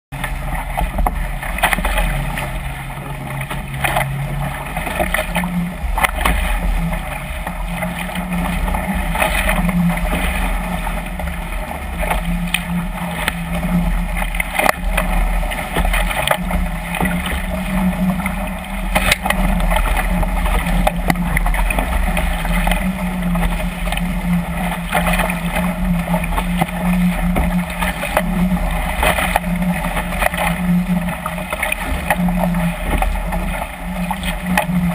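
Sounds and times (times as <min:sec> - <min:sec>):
steady low hum: 0:00.1 - 0:34.9
water rushing past hull: 0:00.1 - 0:34.9.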